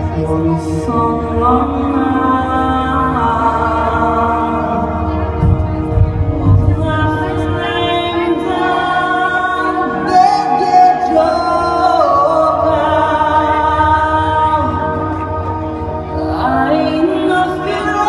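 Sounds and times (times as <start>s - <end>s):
person singing long sliding notes: 0.0s - 18.0s
sustained low backing music: 0.0s - 18.0s.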